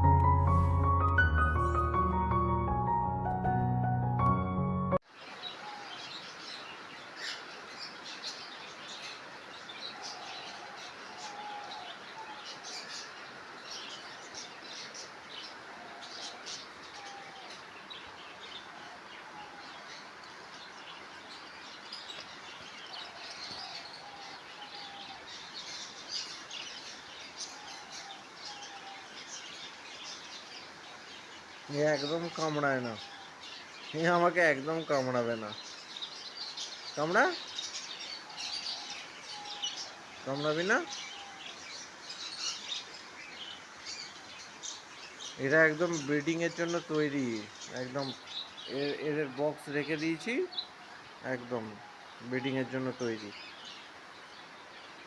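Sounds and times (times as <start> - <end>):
caged birds chirping: 5.1 - 55.0.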